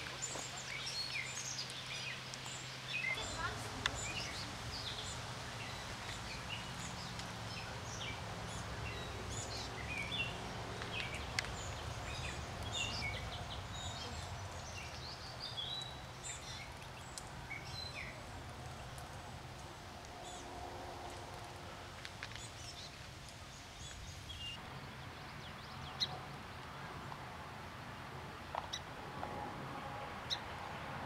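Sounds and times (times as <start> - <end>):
wild birds chirping: 0.0 - 27.2.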